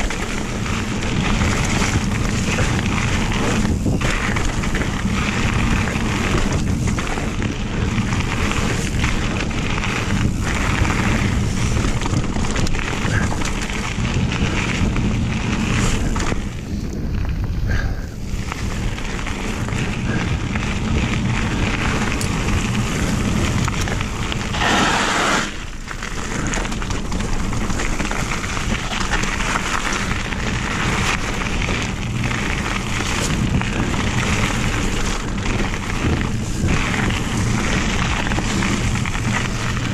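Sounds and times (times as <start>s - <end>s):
bike knocking and rattling: 0.0s - 39.9s
tyres rolling on gravel: 0.0s - 39.9s
wind on microphone: 0.0s - 39.9s.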